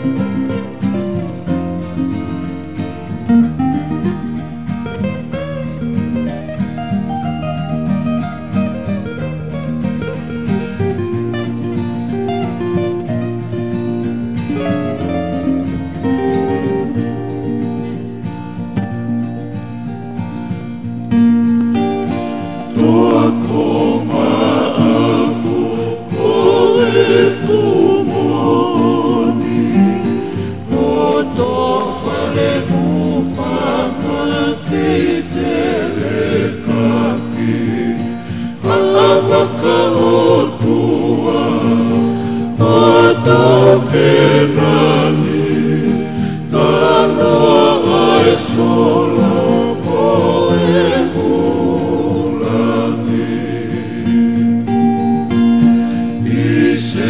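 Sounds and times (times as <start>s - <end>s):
group singing in harmony: 0.0s - 4.8s, 10.2s - 19.9s, 22.0s - 57.0s
strummed acoustic guitar: 0.0s - 57.0s.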